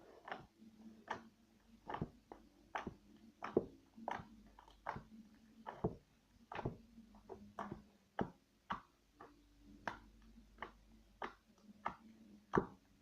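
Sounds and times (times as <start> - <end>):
slime clicking and popping: 0.2 - 12.8.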